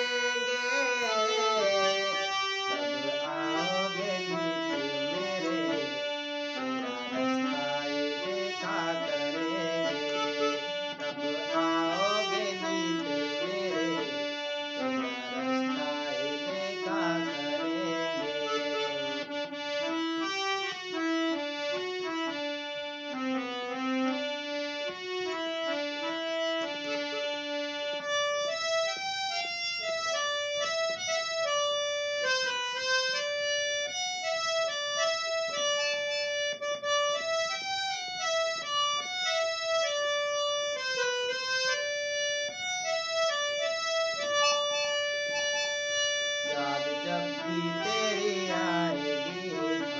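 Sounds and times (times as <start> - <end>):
reed-like keyboard melody: 0.0 - 49.9.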